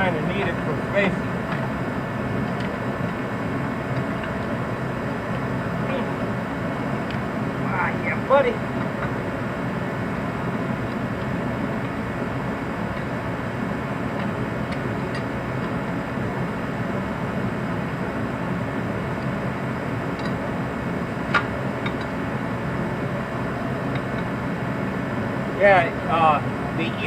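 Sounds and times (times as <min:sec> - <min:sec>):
steady background noise: 0:00.0 - 0:27.0.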